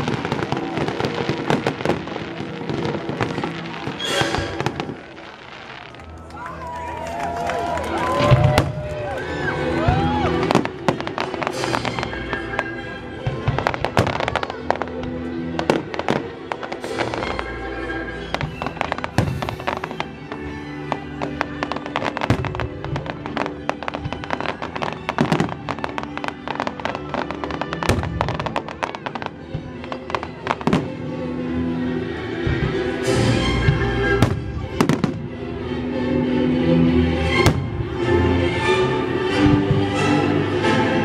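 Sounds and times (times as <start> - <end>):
fireworks bursting and crackling: 0.0 - 35.3
orchestral music: 0.0 - 41.0.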